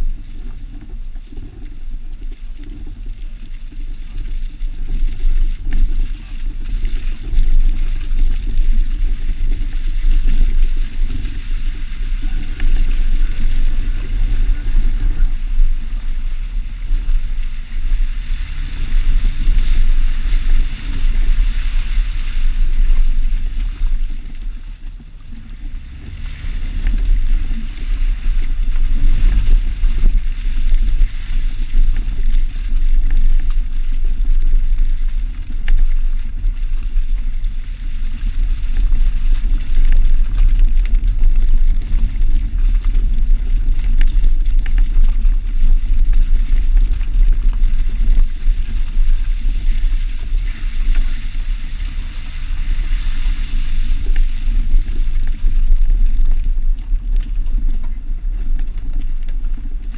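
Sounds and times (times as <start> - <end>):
engine and tyre rumble: 0.0 - 59.9
wind buffeting microphone: 0.0 - 59.9.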